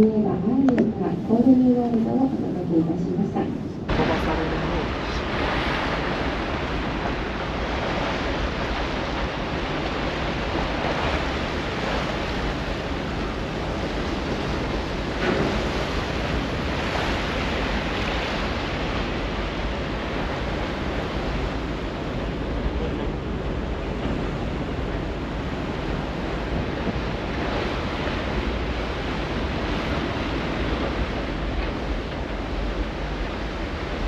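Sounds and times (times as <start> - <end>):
low rumble: 0.0 - 34.0
rushing water of ship wake: 0.0 - 34.0
wind buffeting microphone: 0.0 - 34.0.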